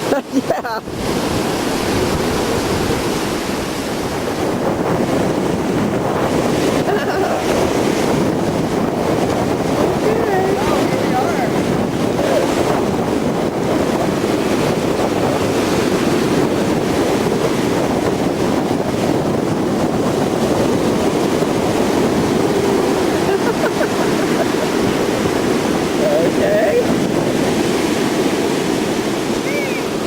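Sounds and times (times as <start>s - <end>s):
storm surf breaking: 0.0s - 30.0s
wind buffeting microphone: 0.0s - 30.0s.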